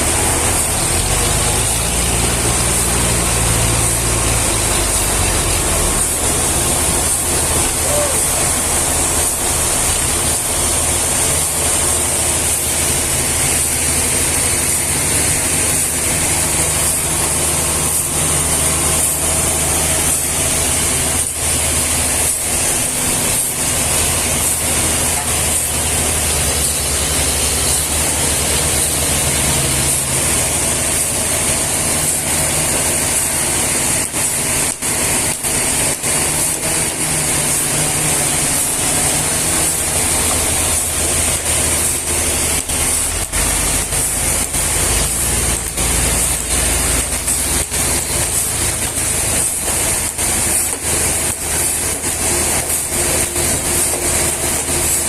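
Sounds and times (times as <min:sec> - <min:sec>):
loud high hiss: 0:00.0 - 0:55.0.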